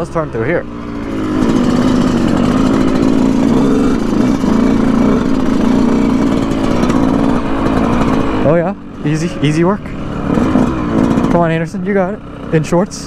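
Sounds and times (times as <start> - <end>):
two-stroke dirt bike engine: 0.0 - 13.0.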